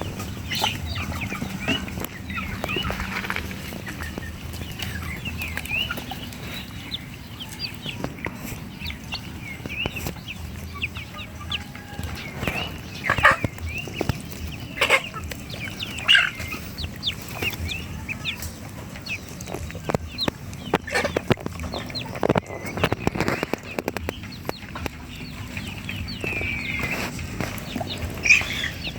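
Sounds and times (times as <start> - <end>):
ducklings peeping: 0.0 - 28.9.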